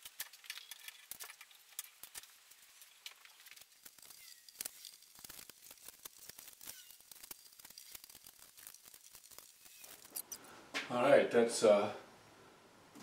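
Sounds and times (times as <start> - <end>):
clicks and crinkling of handling: 0.0 - 10.4.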